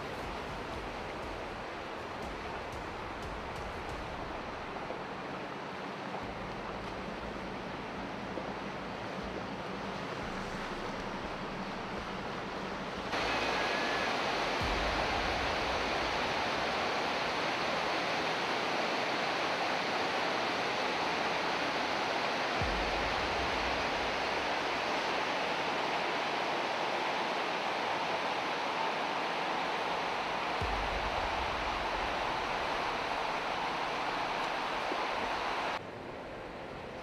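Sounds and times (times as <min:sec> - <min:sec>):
river water rushing over rapids: 0:00.0 - 0:37.0.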